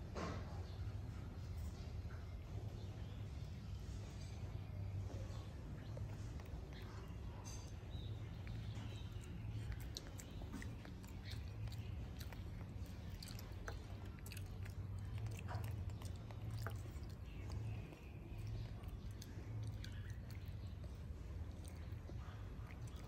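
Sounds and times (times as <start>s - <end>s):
chewing and nibbling: 0.0s - 23.0s
steady low hum: 0.0s - 23.0s.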